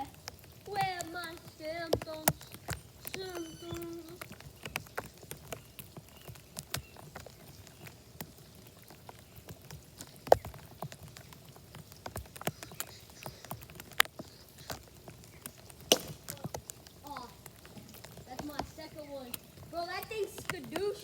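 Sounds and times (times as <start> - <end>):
raindrops tapping on plastic bag: 0.0 - 21.0.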